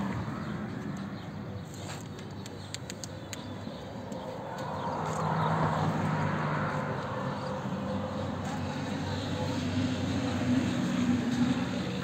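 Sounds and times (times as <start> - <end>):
traffic noise: 0.0 - 12.0
vehicle engine humming: 0.0 - 12.0.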